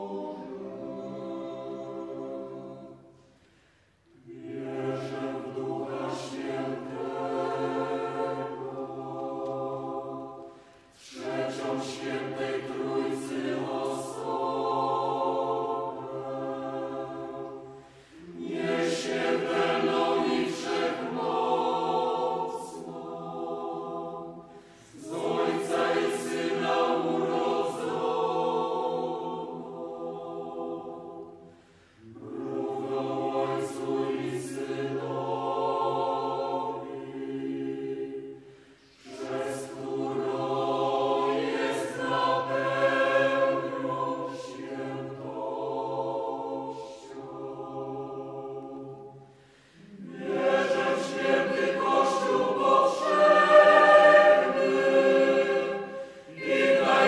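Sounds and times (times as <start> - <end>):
mixed choir singing: 0.0 - 3.5, 4.1 - 57.0.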